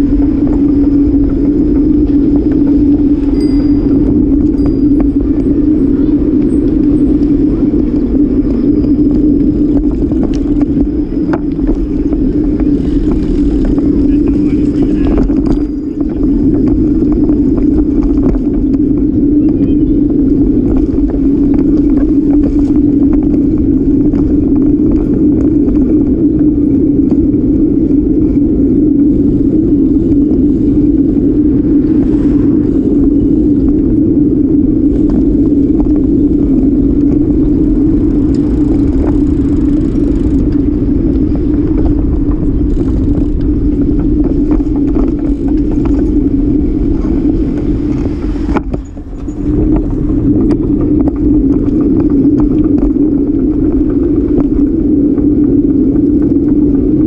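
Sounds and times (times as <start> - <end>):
tyre and road rumble: 0.0 - 57.0
wind on microphone: 0.0 - 57.0.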